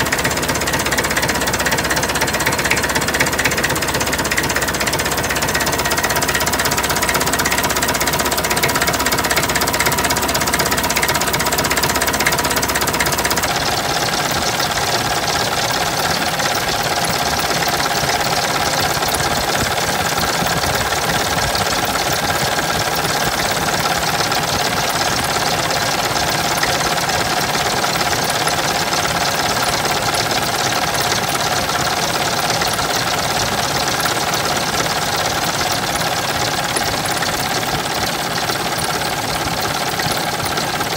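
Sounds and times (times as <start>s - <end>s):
tractor engine clattering: 0.0s - 40.9s.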